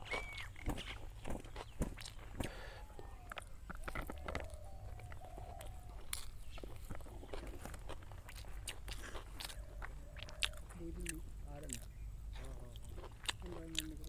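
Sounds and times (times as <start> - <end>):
close chewing with wet smacks: 0.0 - 14.0.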